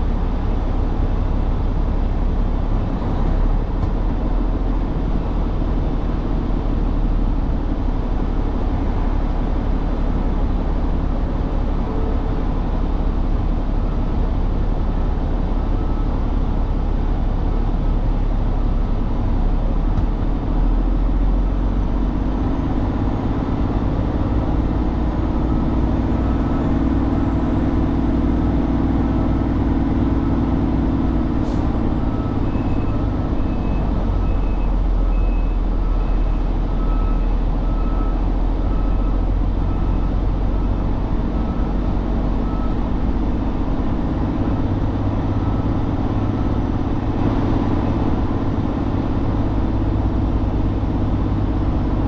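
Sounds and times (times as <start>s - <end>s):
truck diesel engine droning: 0.0s - 52.0s.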